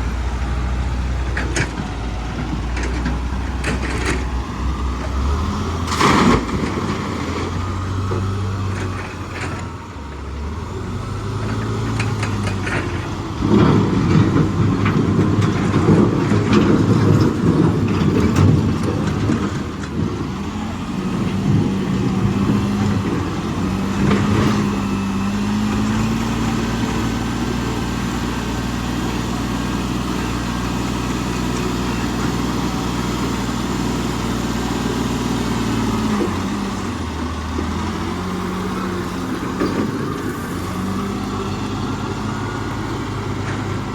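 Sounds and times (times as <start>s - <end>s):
diesel machinery engine revving: 0.0s - 43.9s.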